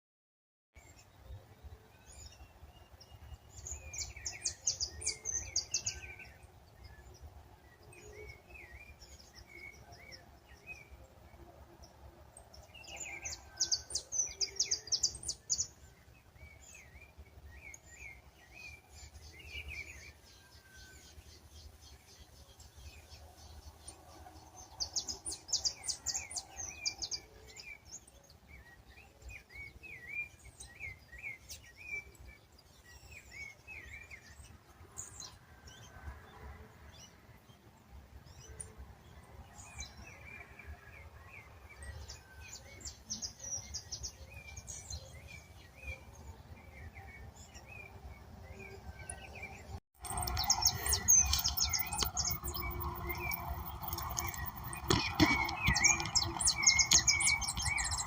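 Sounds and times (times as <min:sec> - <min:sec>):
birds chirping: 0:00.8 - 0:58.0.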